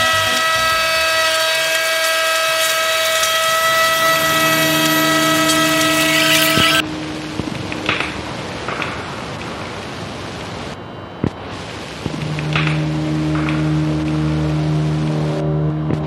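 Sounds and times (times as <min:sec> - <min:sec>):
electric router high whine: 0:00.0 - 0:09.3, 0:12.0 - 0:16.0.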